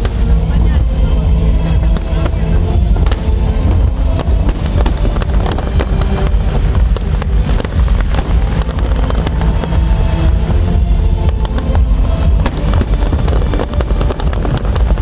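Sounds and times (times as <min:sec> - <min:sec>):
fireworks booming and crackling: 0:00.0 - 0:15.0
music playing: 0:00.0 - 0:15.0.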